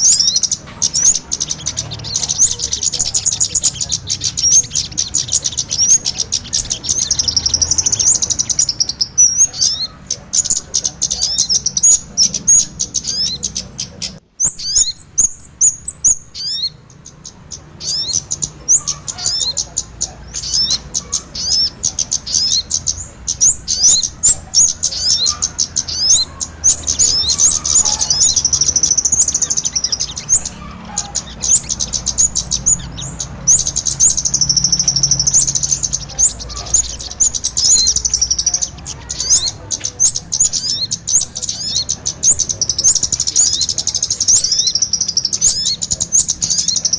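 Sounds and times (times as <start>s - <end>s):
small birds chirping and twittering: 0.0s - 46.9s.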